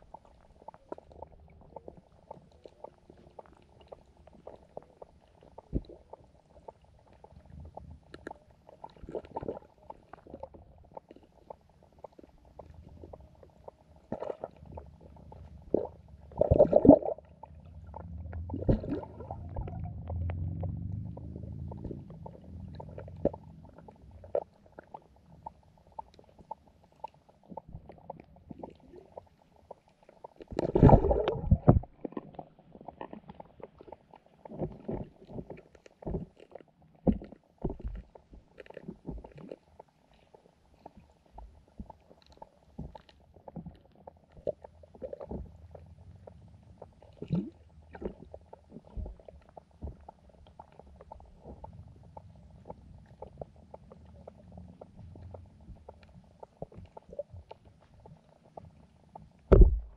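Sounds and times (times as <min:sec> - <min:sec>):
underwater rumbling and gurgling: 0:00.0 - 0:59.9.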